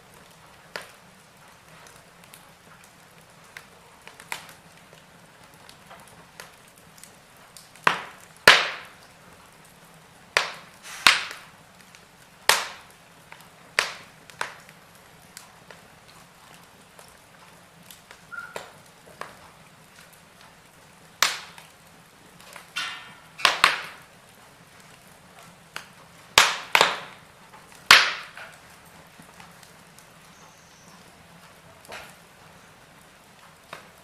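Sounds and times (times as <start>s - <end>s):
faint steady hiss: 0.0s - 34.0s
wood fire crackling and popping: 0.0s - 34.0s.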